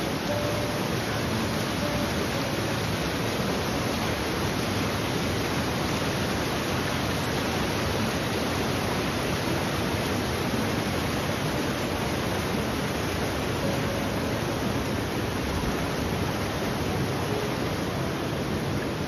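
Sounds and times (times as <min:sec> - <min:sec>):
river water rushing through rapids: 0:00.0 - 0:19.0.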